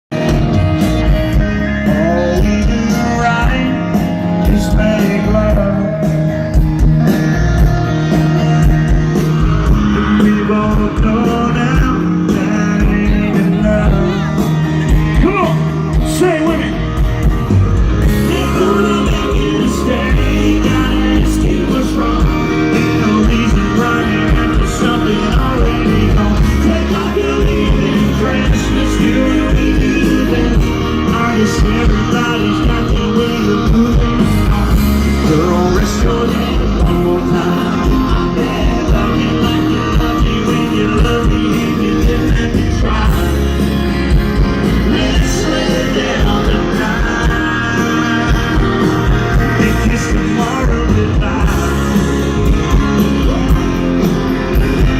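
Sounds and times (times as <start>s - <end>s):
rock music with singing: 0.1s - 54.9s.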